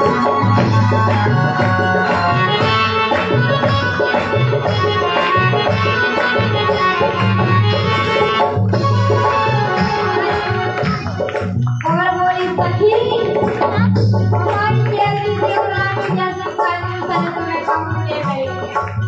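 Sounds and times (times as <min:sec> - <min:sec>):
electronic keyboard melody: 0:00.0 - 0:16.8
hand drum rhythm: 0:00.0 - 0:19.0.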